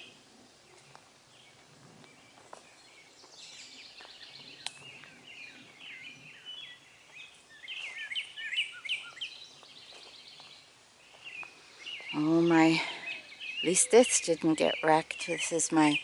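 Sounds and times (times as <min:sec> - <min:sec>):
faint background hiss: 0:00.0 - 0:16.0
songbirds chirping: 0:00.0 - 0:16.0.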